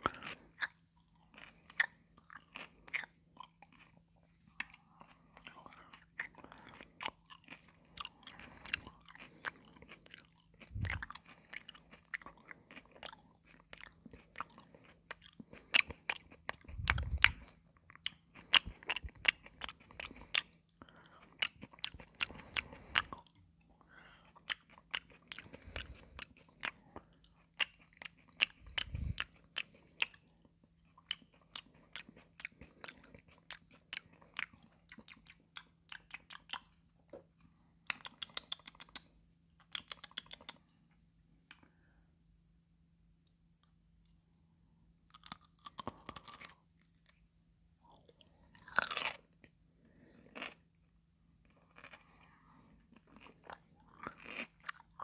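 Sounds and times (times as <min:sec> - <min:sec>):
chewing raw cucumber: 0:00.0 - 0:40.7, 0:45.0 - 0:47.2, 0:47.8 - 0:55.0.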